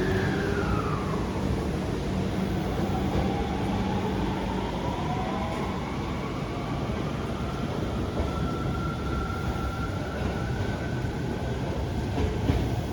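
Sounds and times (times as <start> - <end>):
subway train rumble: 0.0 - 12.9.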